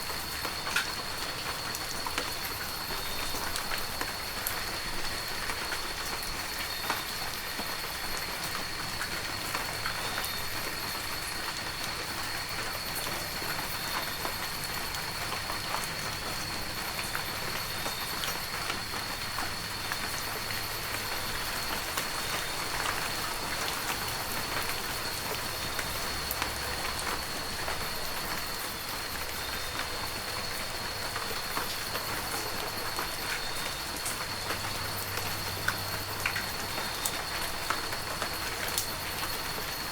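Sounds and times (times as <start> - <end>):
heavy rain falling: 0.0 - 39.9
raindrops ticking close by: 0.0 - 39.9.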